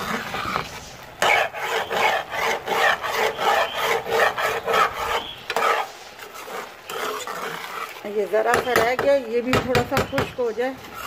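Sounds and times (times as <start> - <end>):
metal spoon scraping a pan: 0.0 - 9.0.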